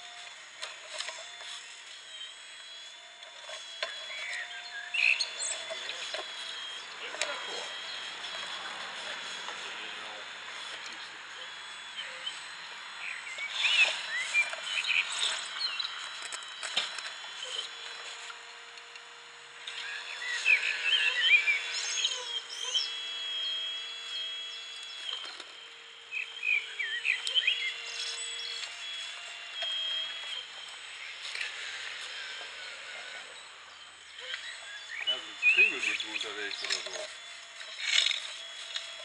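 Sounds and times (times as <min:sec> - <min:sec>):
birds singing: 0:00.0 - 0:39.0
model excavator electric motors whining: 0:00.0 - 0:39.0.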